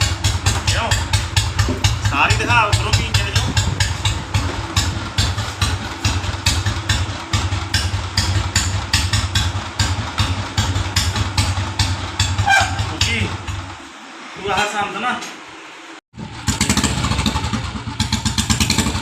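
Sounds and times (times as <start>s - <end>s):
motorcycle engine idling: 0.0s - 13.9s, 16.2s - 19.0s.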